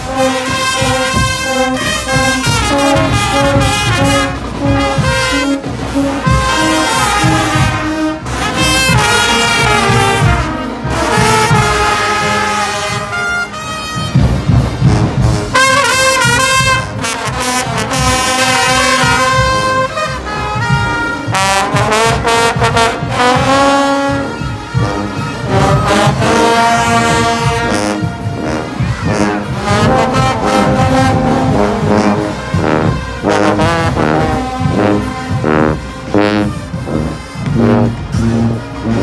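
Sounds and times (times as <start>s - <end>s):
bass drums and percussion: 0.0s - 39.0s
brass band playing: 0.0s - 39.0s.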